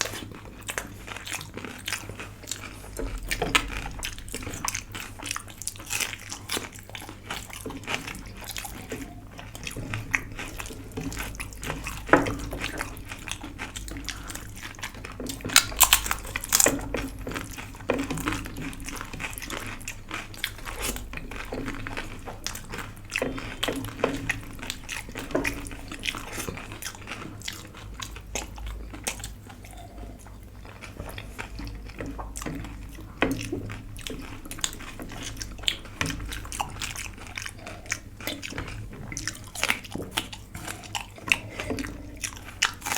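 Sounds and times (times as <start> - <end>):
chewing and crunching food: 0.0 - 42.9
wet sloppy eating sounds: 0.0 - 42.9.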